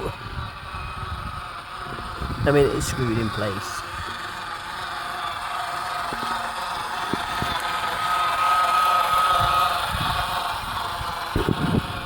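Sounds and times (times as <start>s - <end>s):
model train motor whine: 0.0s - 12.0s
wheels clicking on rails: 0.0s - 12.0s.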